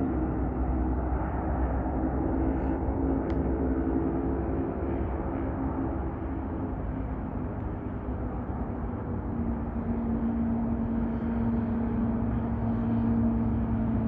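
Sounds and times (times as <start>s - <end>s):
jet engines rumbling overhead: 0.0s - 14.0s.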